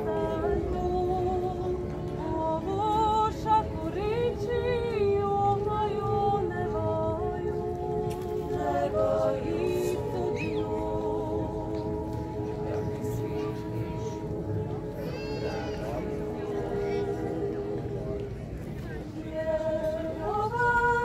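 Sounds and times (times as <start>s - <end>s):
women singing a cappella: 0.0s - 14.3s, 16.2s - 21.0s.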